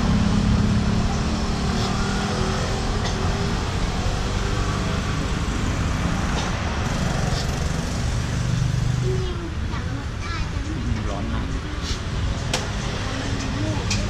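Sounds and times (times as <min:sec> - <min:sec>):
rumble of road traffic: 0:00.0 - 0:14.0.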